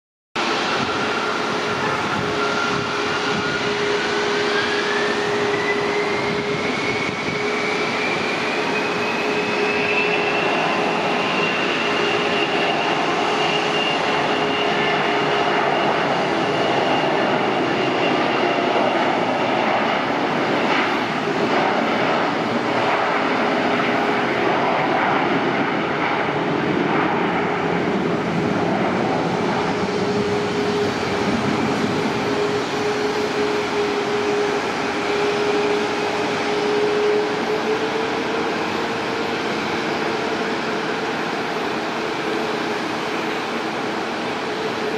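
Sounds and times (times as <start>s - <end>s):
jet engine rumble: 0.4s - 44.9s
jet engine whine rising: 0.4s - 44.9s.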